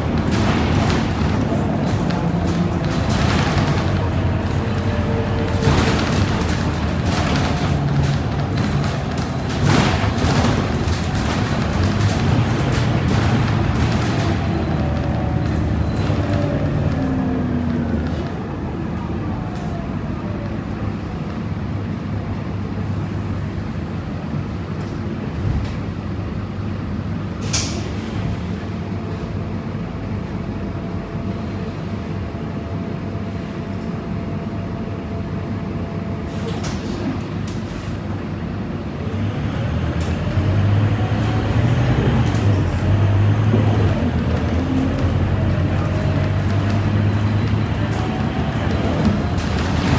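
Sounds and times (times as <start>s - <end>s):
bus diesel engine idling: 0.0s - 49.9s.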